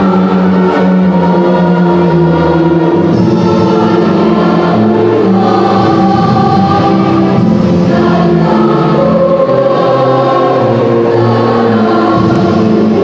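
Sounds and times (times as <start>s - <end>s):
choir singing in parts: 0.0s - 13.0s.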